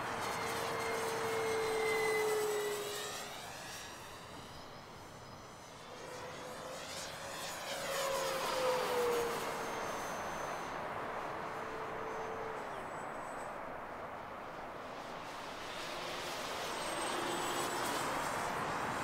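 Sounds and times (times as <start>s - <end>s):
model airplane motor whining: 0.0s - 13.6s, 14.4s - 19.0s.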